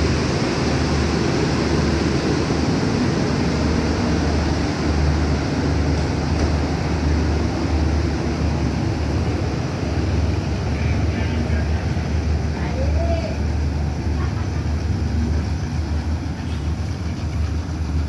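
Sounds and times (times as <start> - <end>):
train wheels on rail: 0.0 - 18.0.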